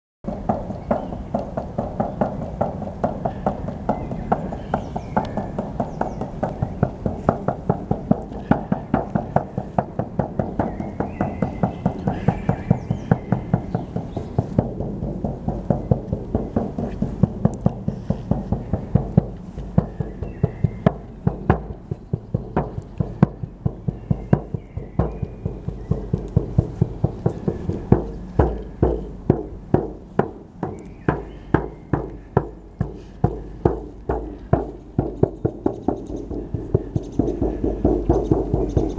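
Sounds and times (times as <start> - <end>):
frame drum beaten fast: 0.3 - 38.9.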